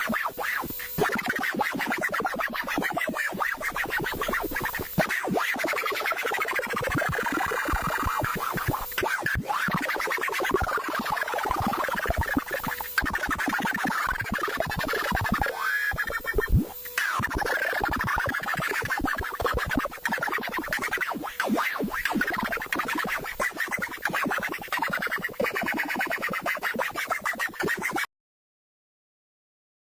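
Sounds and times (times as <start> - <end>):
buzzing tones: 0.0 - 28.0
glitchy synthesizer noise: 0.0 - 28.1
rapid stuttering clicks: 0.0 - 28.1.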